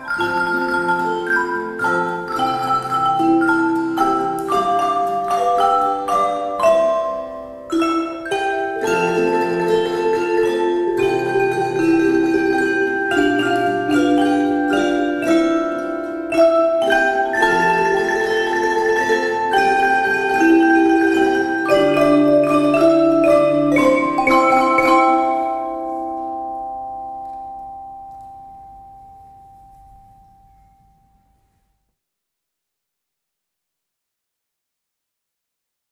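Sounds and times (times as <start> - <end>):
mallet percussion music: 0.0 - 31.4.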